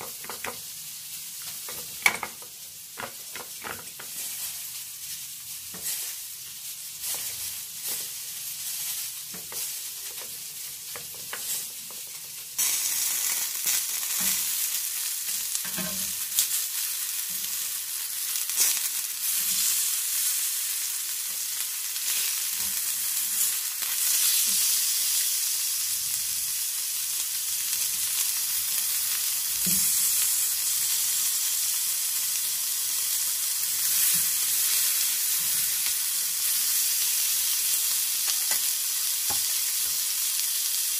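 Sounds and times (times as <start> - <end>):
chicken sizzling on grill pan: 0.0 - 40.9.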